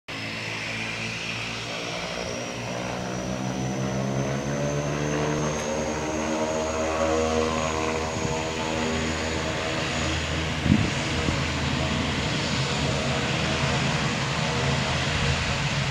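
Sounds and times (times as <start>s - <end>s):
turboprop engines at take-off: 0.1s - 15.9s.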